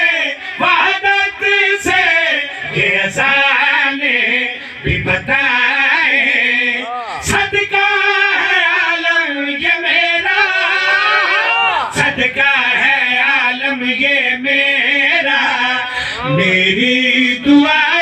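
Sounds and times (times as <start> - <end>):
men chanting devotional song: 0.0 - 18.0
person singing into a microphone: 0.0 - 18.0.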